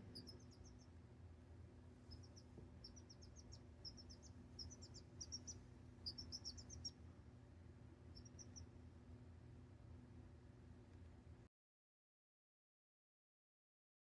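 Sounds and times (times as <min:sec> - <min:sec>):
faint low hum: 0:00.0 - 0:11.5.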